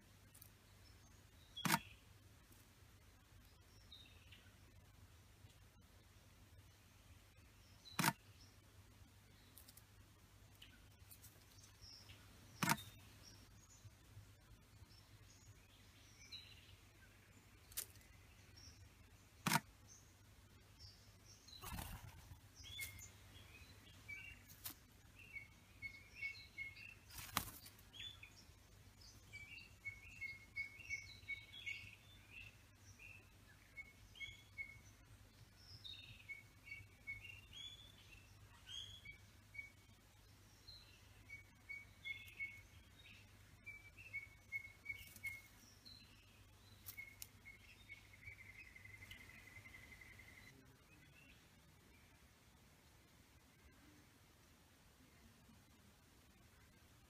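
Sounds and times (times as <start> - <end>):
birds chirping: 0.3 - 2.2, 2.9 - 52.6.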